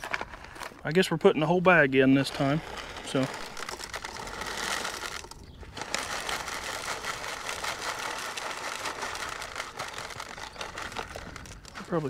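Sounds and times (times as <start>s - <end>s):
seeds pouring into plastic hopper: 1.8s - 12.0s.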